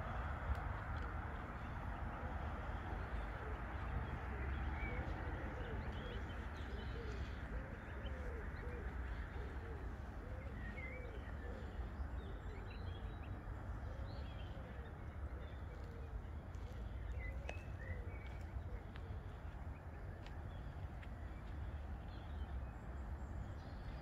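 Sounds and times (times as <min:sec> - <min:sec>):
low outdoor background rumble: 0:00.0 - 0:24.0
birds calling: 0:01.0 - 0:24.0.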